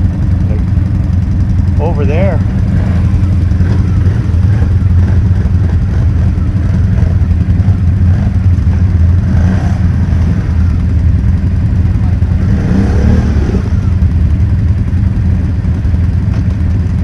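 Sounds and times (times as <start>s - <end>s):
atv engine running at low revs: 0.0s - 17.0s.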